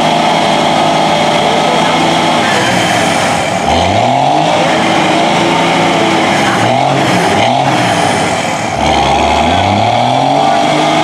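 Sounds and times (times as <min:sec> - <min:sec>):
tires churning mud and water: 0:00.0 - 0:11.0
truck engine revving hard: 0:00.0 - 0:11.0.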